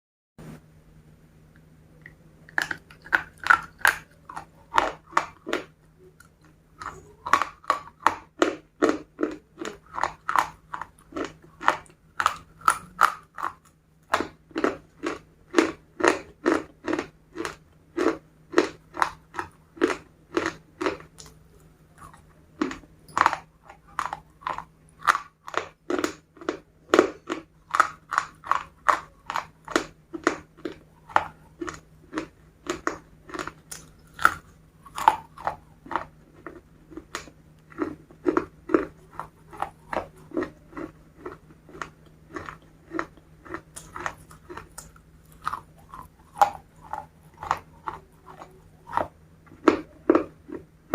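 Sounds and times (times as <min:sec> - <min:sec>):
faint low hum: 0:00.4 - 0:50.9
crunching and chewing fried chicken: 0:02.4 - 0:50.9.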